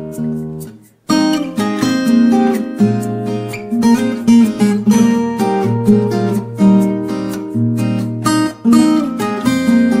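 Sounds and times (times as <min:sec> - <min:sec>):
acoustic guitar playing: 0:00.0 - 0:10.0.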